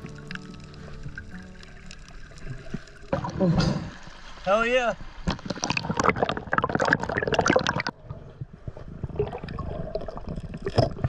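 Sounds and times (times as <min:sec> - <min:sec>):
water splashing and gurgling: 0:00.0 - 0:11.0.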